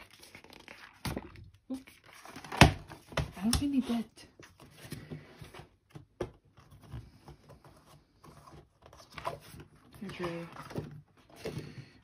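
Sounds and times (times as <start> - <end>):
paper pages rustling: 1.8 - 12.0.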